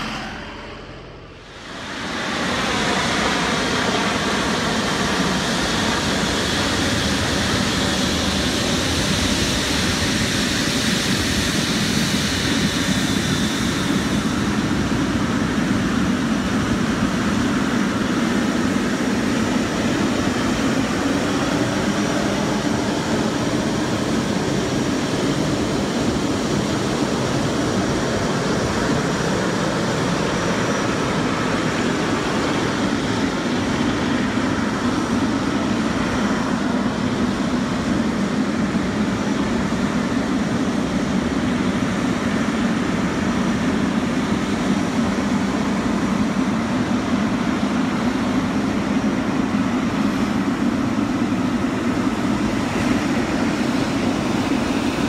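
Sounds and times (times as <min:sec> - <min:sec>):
jet engine whine: 0:00.0 - 0:55.0
jet engines rumbling: 0:00.0 - 0:55.0.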